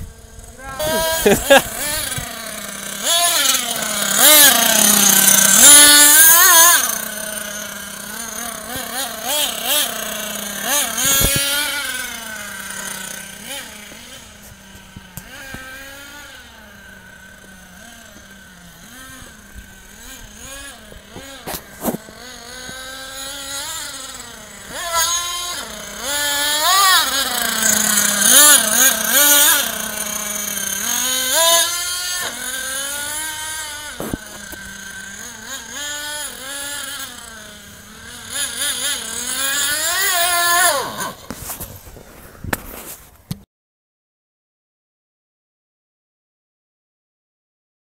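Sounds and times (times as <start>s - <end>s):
small nitro engine revving: 0.0s - 43.0s.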